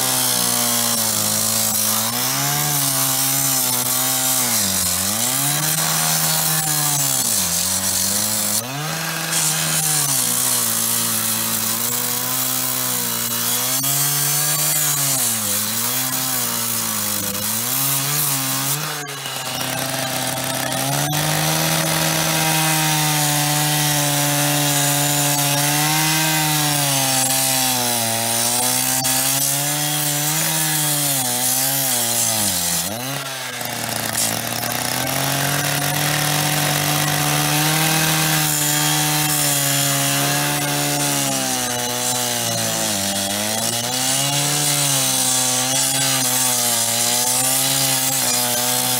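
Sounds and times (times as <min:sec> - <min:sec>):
power cutter cutting metal: 0:00.0 - 0:48.9.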